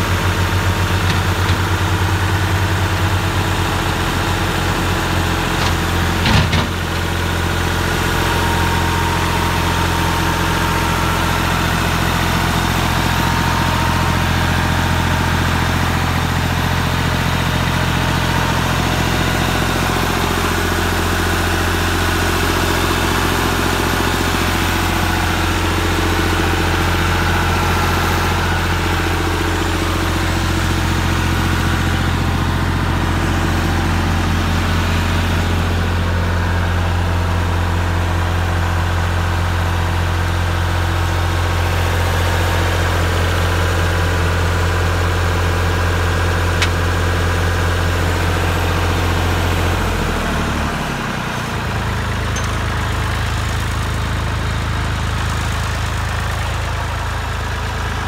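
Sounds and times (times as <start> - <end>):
engine knock: 0.0 - 58.0
tractor diesel engine idling: 0.0 - 58.0.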